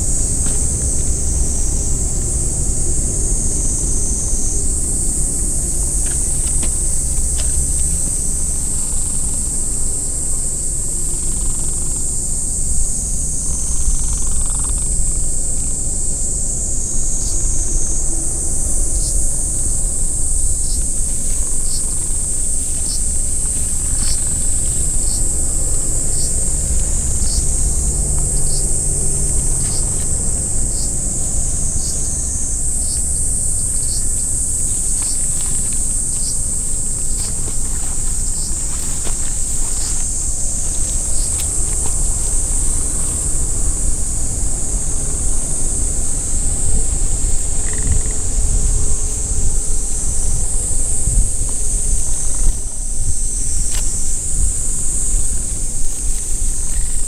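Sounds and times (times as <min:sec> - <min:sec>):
high insect drone: 0:00.0 - 0:57.0
high-pitched hiss: 0:00.0 - 0:57.0
insect chirps: 0:00.0 - 0:57.0
steady low rumble: 0:00.0 - 0:57.0.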